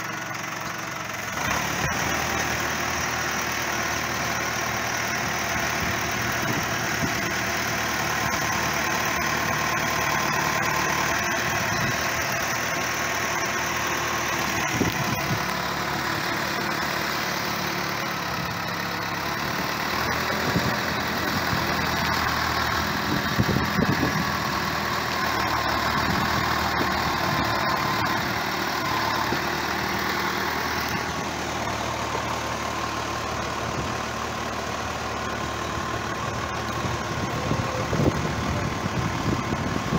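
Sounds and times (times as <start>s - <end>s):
diesel engine running at low revs: 0.0s - 39.9s.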